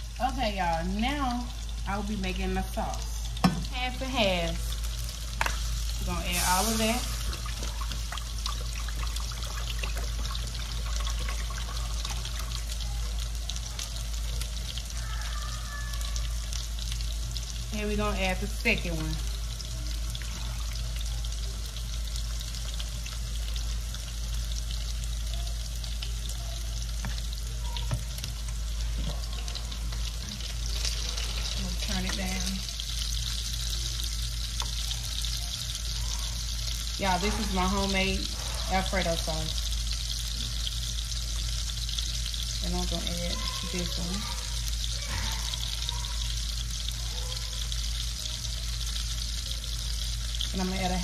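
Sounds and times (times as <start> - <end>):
sauce sizzling in a pan: 0.0 - 51.0.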